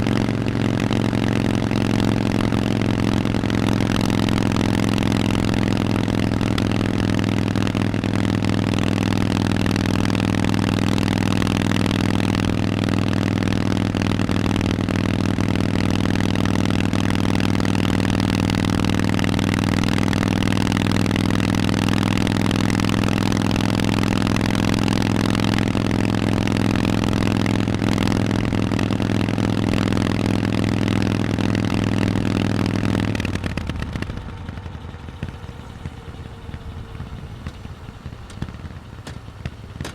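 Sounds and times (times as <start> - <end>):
v-twin motorcycle engine running: 0.0 - 39.9.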